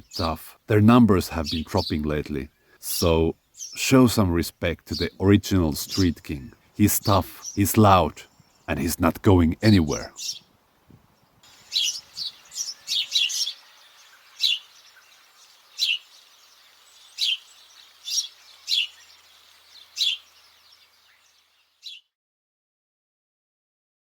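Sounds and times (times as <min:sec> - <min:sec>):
sparrow chirping: 0:00.0 - 0:00.4, 0:01.3 - 0:03.9, 0:04.9 - 0:22.1
faint outdoor hiss: 0:00.0 - 0:22.0.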